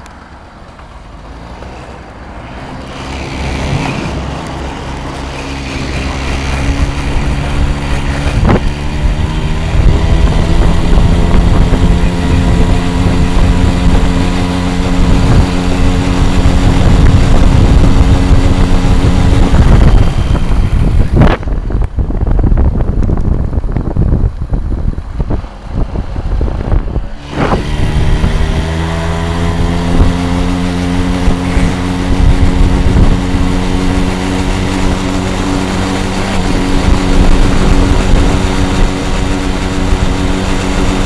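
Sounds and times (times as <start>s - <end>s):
small two-stroke motor at full throttle: 1.3s - 41.0s.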